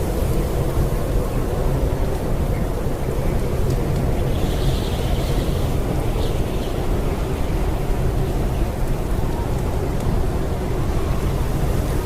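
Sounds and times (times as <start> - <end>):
blizzard wind rushing: 0.0 - 12.0.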